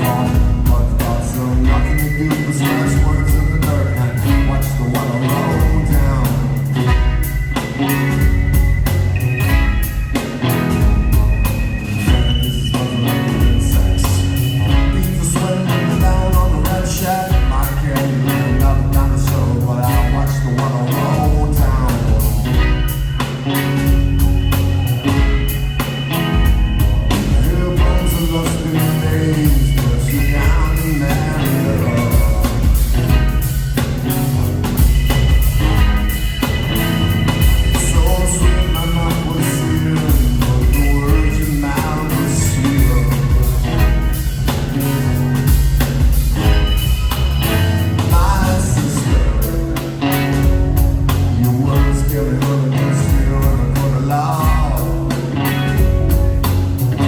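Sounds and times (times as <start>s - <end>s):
driving drum kit: 0.0s - 57.0s
heavy bass line: 0.0s - 57.0s
live rock band playing: 0.0s - 57.0s.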